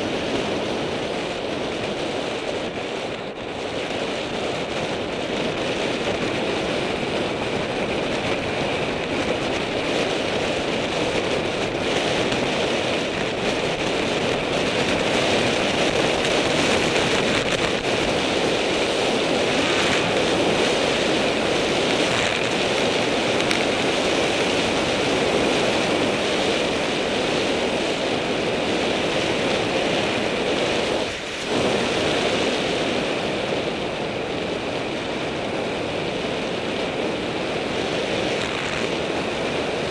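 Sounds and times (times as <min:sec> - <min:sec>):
bicycle tyres on asphalt: 0:00.0 - 0:39.9
wind buffeting microphone: 0:00.0 - 0:39.9.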